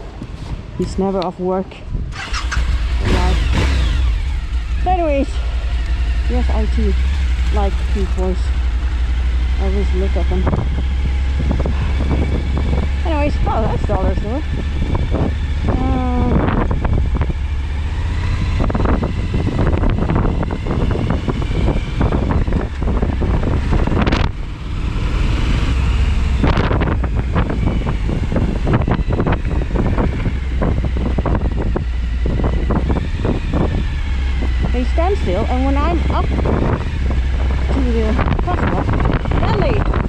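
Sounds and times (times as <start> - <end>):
wind buffeting microphone: 0.0 - 40.0
motorcycle engine running: 2.0 - 40.0.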